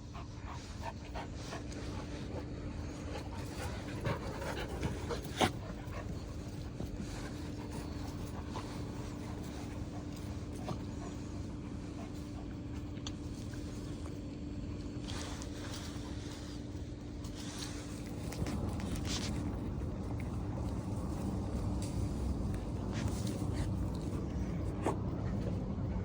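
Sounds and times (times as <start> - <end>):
dog panting: 0.0 - 26.0
steady low hum: 0.0 - 26.0.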